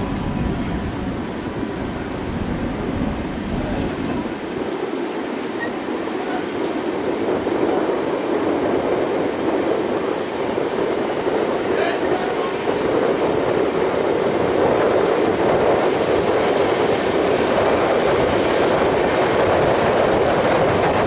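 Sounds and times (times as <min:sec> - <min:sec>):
train wheels on track: 0:00.0 - 0:21.0.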